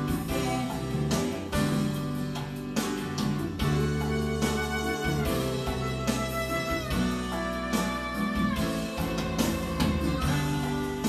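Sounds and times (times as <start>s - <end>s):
song with guitar: 0.0s - 11.0s.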